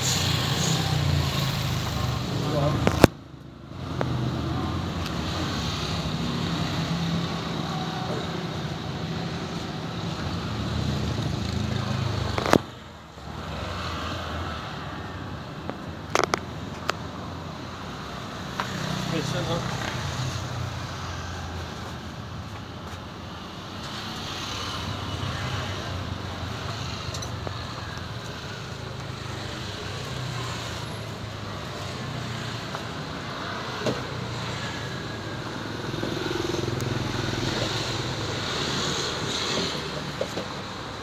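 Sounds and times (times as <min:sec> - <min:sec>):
cars and motorcycles passing: 0:00.0 - 0:41.0.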